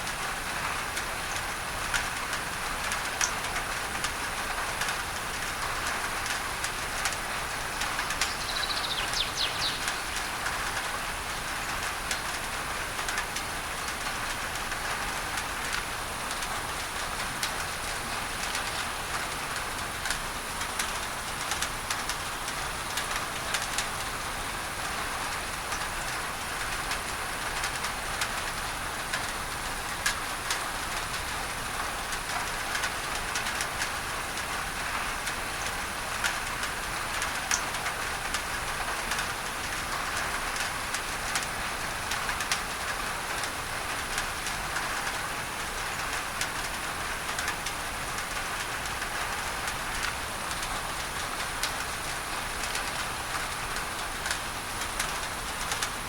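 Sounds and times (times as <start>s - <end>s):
pink noise hiss: 0.0s - 56.0s
rain on a tin roof: 0.0s - 56.0s.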